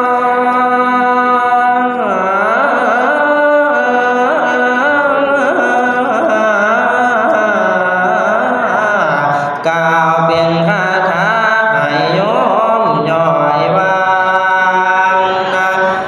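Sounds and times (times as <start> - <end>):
young monk chanting: 0.0 - 16.0.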